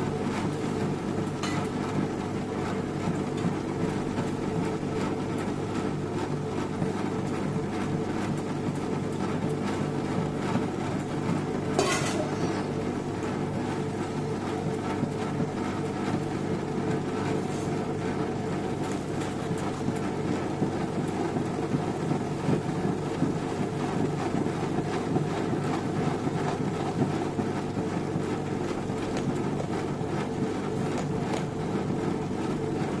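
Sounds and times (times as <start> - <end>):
wet grinder running: 0.0 - 33.0.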